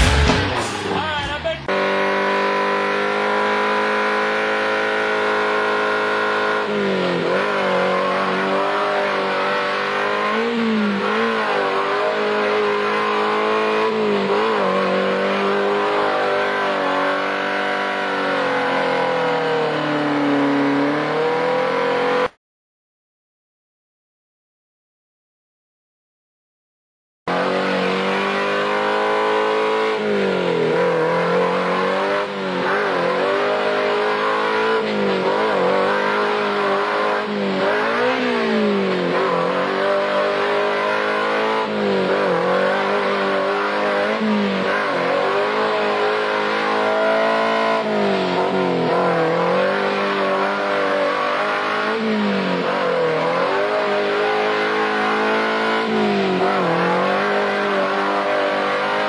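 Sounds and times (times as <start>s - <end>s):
engine revving in mud: 1.7s - 22.3s, 27.3s - 59.0s.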